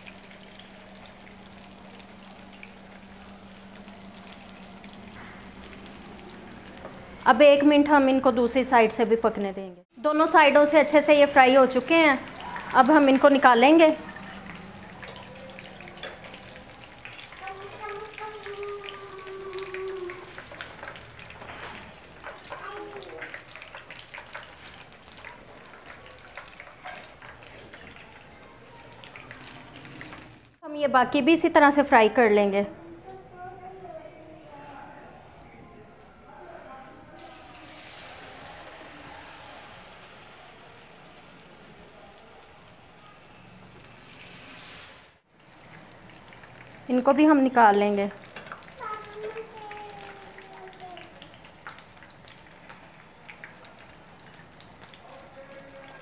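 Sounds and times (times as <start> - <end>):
small oil crackles: 0.0 - 8.6, 9.9 - 30.6, 37.2 - 56.0
food sizzling in hot oil: 0.0 - 30.6, 37.2 - 56.0.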